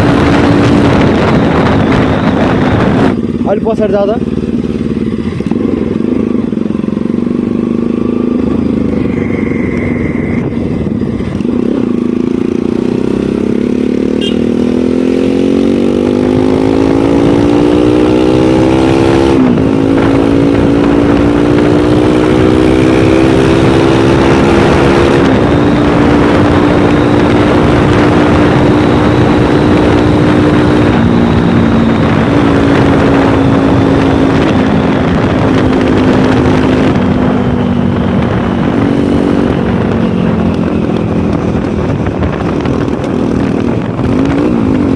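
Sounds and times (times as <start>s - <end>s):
constant rushing noise: 0.0s - 14.0s, 15.1s - 44.9s
motorcycle engine accelerating: 0.0s - 44.9s.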